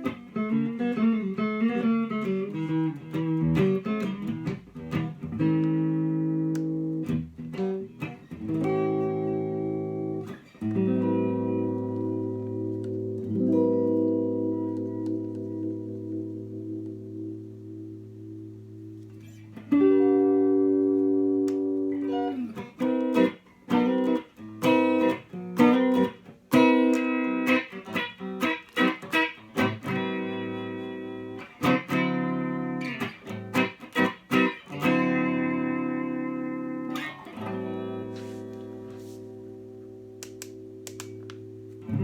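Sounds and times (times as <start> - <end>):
clean electric guitar chords: 0.0 - 42.0.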